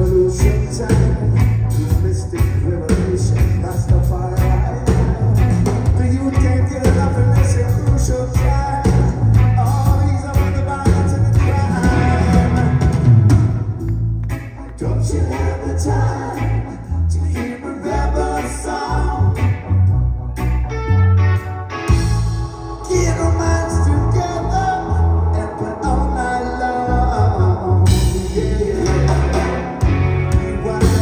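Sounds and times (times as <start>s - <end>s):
male lead vocal: 0.0s - 13.3s, 14.8s - 19.6s, 22.1s - 31.0s
blues-rock band playing: 0.0s - 31.0s.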